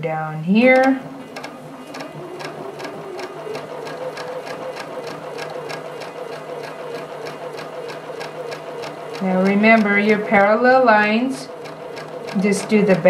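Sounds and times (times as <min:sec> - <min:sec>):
sewing machine running: 0:00.5 - 0:13.0.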